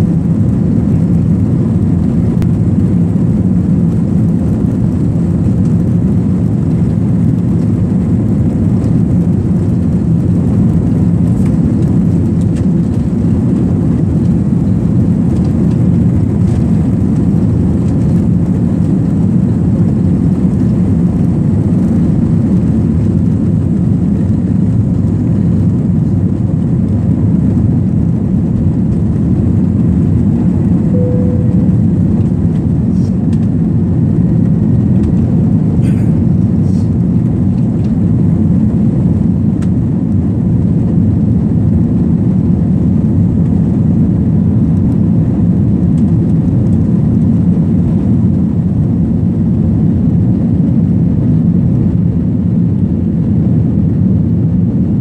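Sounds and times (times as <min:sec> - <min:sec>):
jet engines rumbling in cabin: 0:00.0 - 0:55.0.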